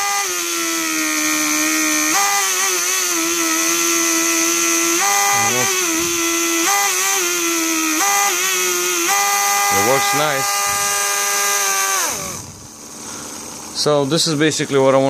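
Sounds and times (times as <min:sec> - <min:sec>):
vacuum pump whining: 0:00.0 - 0:15.0.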